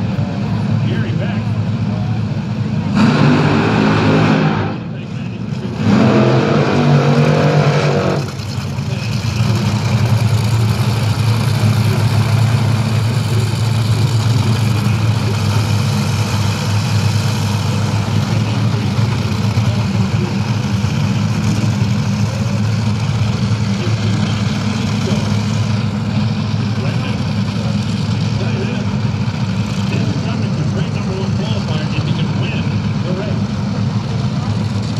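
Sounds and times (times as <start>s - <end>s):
dragster engines idling loudly: 0.0s - 34.9s.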